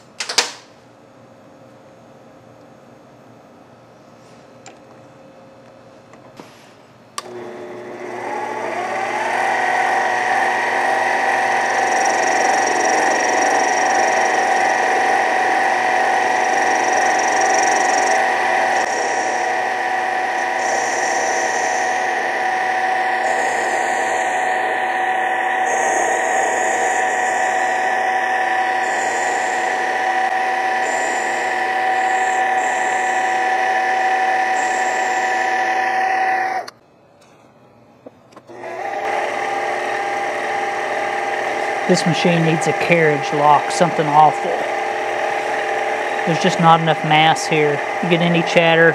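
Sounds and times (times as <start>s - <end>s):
metal cutting noise: 7.2s - 36.7s, 38.5s - 48.9s
lathe motor whine: 7.2s - 36.8s, 38.4s - 48.9s.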